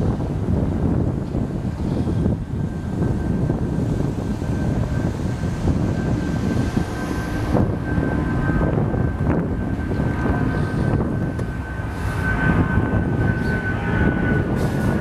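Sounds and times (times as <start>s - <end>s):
jet engine rumble: 0.0s - 15.0s
jet engine whine: 0.0s - 15.0s.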